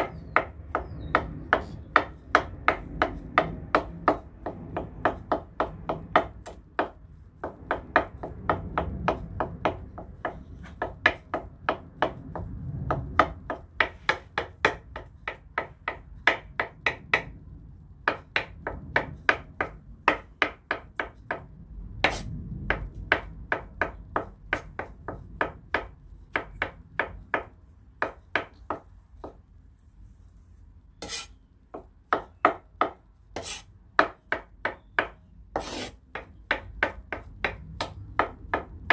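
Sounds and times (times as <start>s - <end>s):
knife chopping on wooden board: 0.0s - 17.3s, 18.0s - 29.4s, 31.0s - 38.9s.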